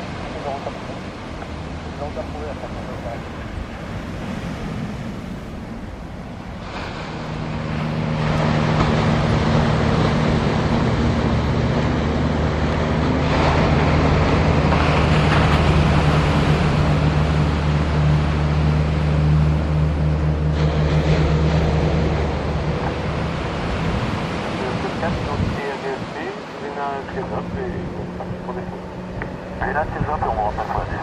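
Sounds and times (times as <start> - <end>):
jet engines roaring at takeoff: 0.0 - 31.0
surf: 0.0 - 31.0
wind: 0.0 - 31.0.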